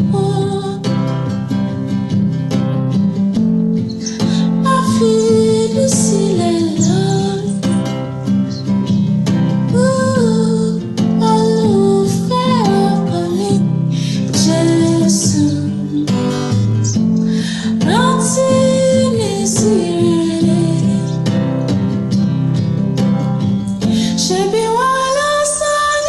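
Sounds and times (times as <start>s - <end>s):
acoustic guitar accompaniment: 0.0s - 26.0s.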